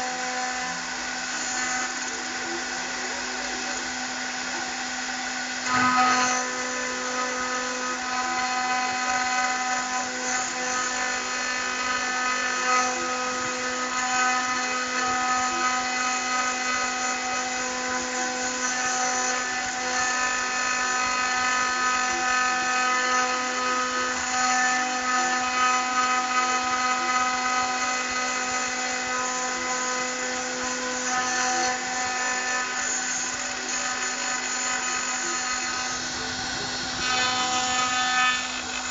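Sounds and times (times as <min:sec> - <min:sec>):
spindle whining and grinding metal: 0:00.0 - 0:38.9.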